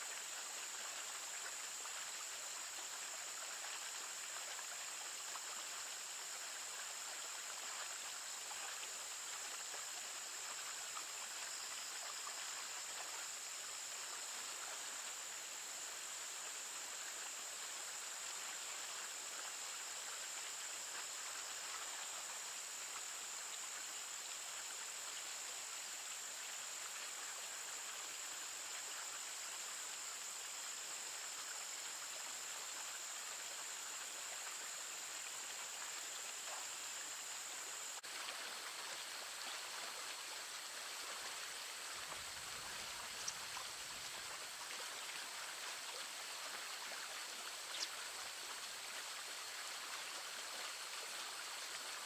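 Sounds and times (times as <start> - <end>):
stream water running: 0.0 - 52.0.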